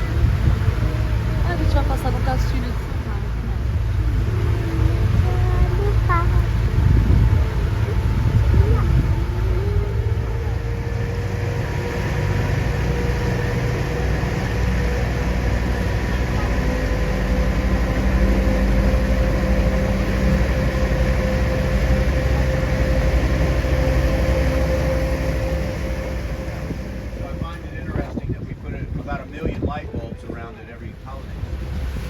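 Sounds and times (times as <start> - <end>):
boat engine drone with whine: 0.0 - 32.0.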